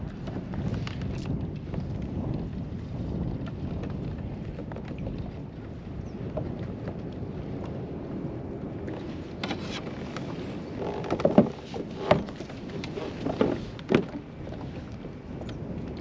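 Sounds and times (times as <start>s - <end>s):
water lapping on kayak: 0.0s - 16.0s
wind: 0.0s - 16.0s.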